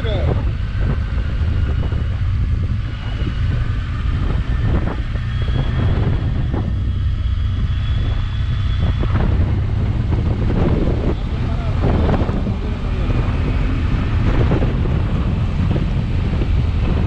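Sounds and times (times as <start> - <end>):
motorcycle engine rumble: 0.0 - 17.0
wind buffeting microphone: 0.0 - 17.0.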